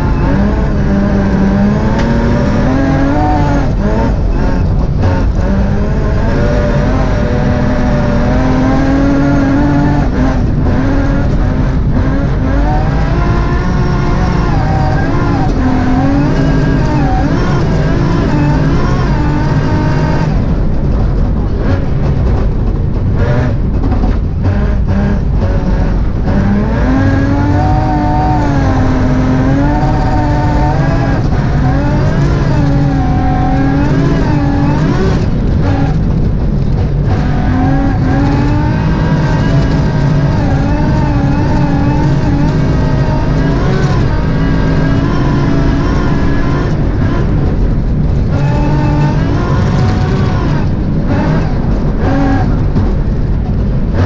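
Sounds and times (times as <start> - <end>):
rally car engine revving: 0.0 - 54.0
tyres rumbling on gravel: 0.0 - 54.0.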